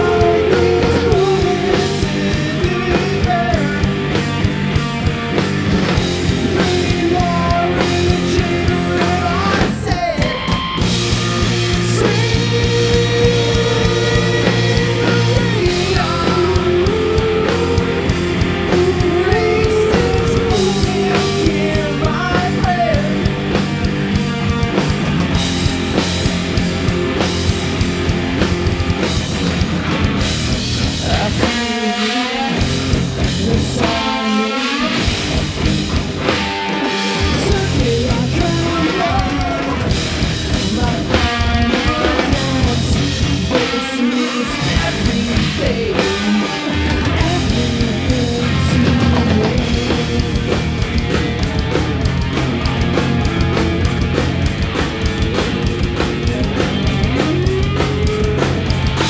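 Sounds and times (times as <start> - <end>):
heavy rock band playing: 0.0 - 59.0.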